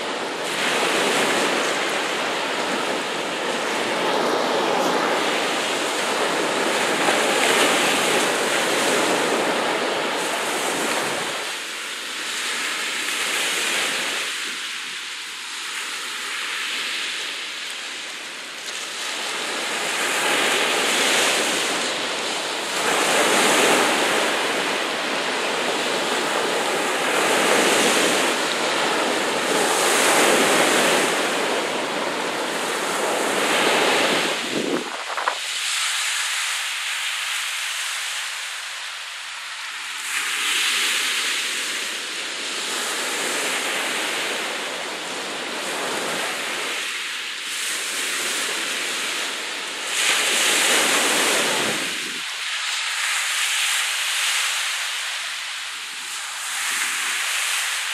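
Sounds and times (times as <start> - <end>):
waves washing and breaking: 0.0 - 57.9.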